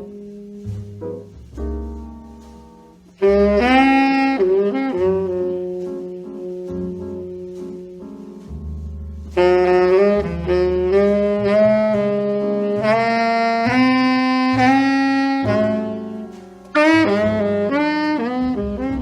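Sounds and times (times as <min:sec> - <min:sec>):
jazz-like lead melody: 0:00.0 - 0:19.0
low bass notes: 0:00.0 - 0:19.0.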